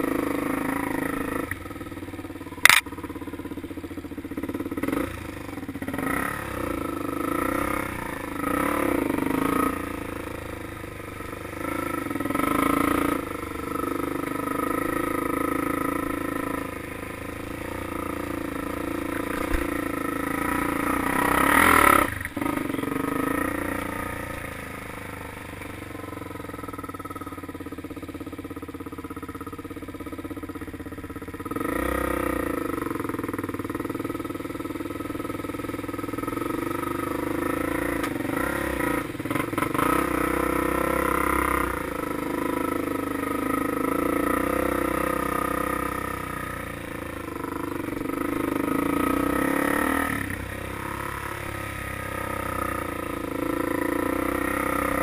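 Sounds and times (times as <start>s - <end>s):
off-road engine revving: 0.0s - 1.8s, 4.4s - 27.0s, 31.4s - 34.2s, 35.2s - 55.0s.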